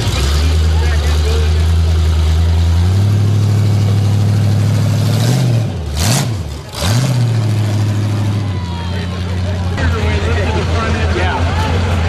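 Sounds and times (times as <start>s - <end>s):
loud car engine idling: 0.0s - 12.0s.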